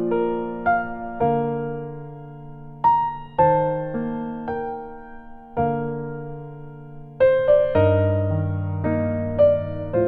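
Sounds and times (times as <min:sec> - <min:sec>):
electric piano music: 0:00.0 - 0:10.0.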